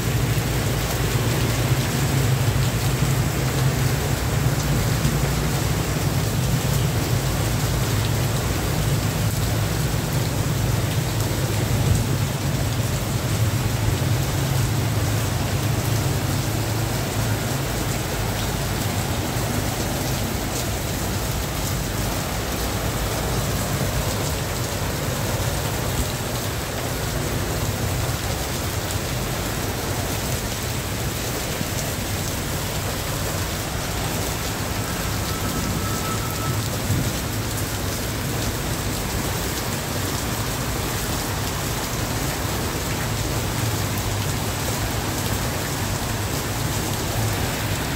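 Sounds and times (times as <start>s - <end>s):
heavy rain hissing: 0.0s - 47.9s.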